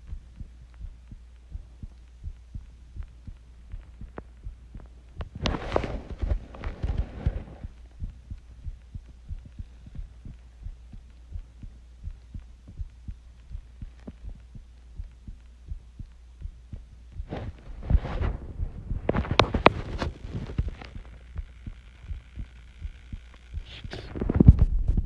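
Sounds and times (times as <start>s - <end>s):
constant deep hum: 0.0s - 25.0s
heartbeat thumps: 0.0s - 25.0s.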